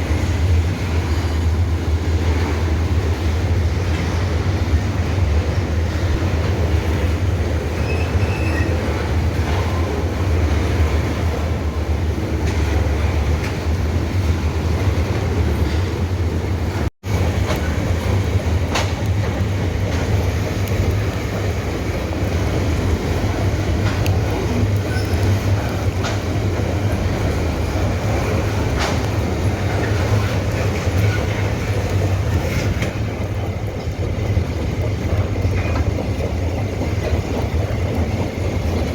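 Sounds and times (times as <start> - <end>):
freight train rumbling past: 0.0 - 38.9
train wheel clacks: 0.0 - 38.9.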